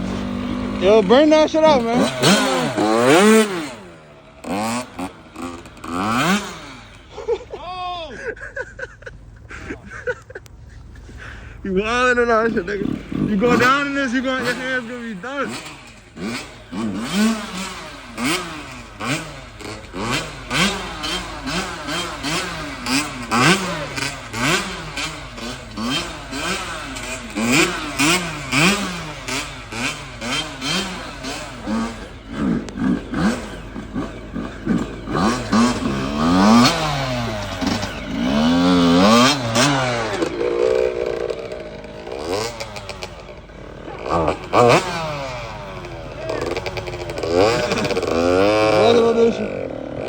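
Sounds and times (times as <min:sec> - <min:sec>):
two-stroke motorcycle engine revving: 0:00.0 - 0:50.0.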